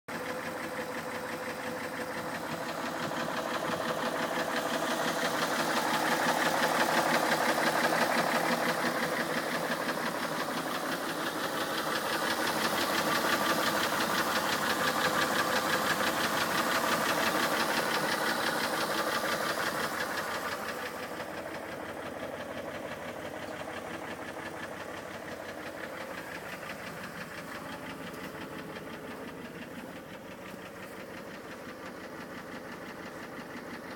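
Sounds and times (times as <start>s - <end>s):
engine with fast even knocking: 0.1s - 33.9s.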